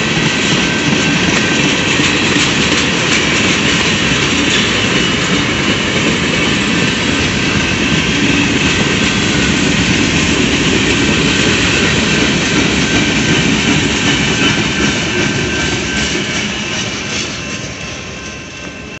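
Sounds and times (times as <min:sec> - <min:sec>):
freight train rolling past: 0:00.0 - 0:19.0
steel wheels rumbling on rail: 0:00.0 - 0:19.0.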